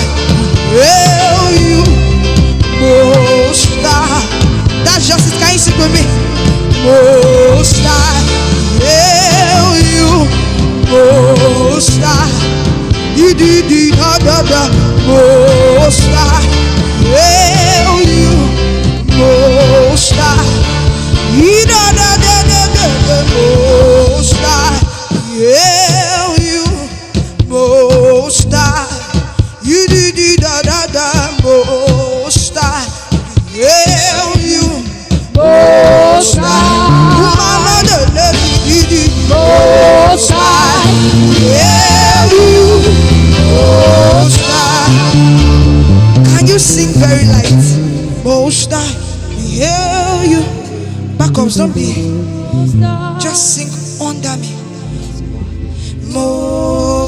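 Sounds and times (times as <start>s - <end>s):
band accompaniment with bass: 0.0s - 57.0s
person singing with vibrato: 0.0s - 57.0s.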